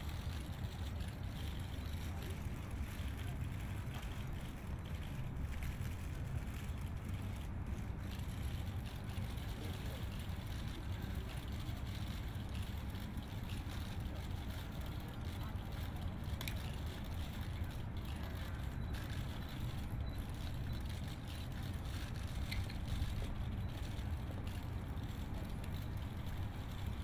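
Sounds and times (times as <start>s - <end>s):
distant city traffic: 0.0s - 27.0s
wind: 0.0s - 27.0s.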